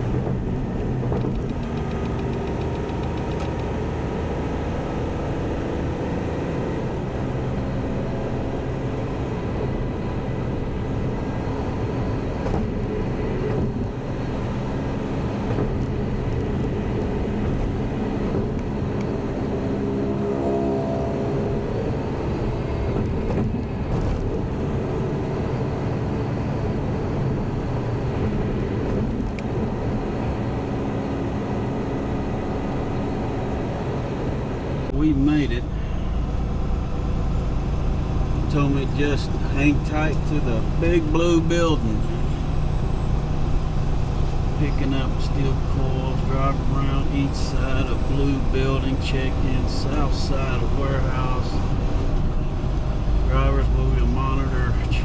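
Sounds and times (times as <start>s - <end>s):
diesel truck engine running: 0.0s - 55.0s
road noise: 0.0s - 55.0s.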